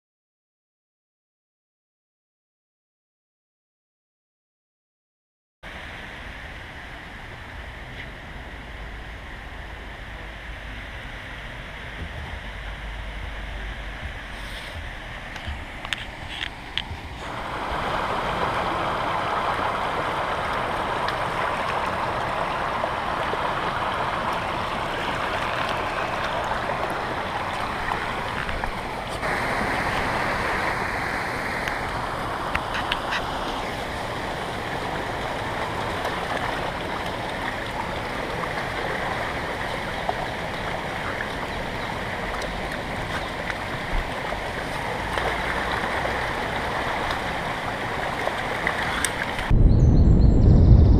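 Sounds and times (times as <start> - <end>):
floodwater rushing: 5.7 - 49.7.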